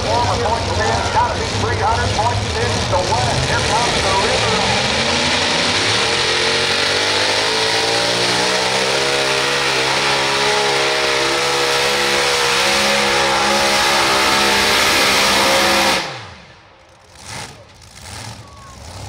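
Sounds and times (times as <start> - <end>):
tractor engine at full throttle: 0.0 - 19.0.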